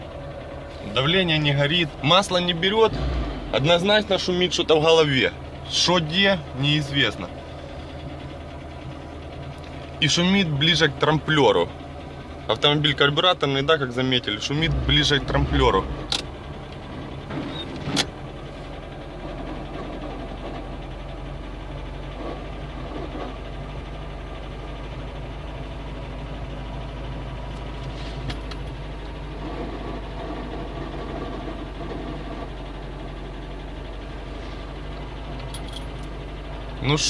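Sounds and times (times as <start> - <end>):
car engine idling: 0.0 - 37.0
noise from cylinder head: 0.0 - 37.0.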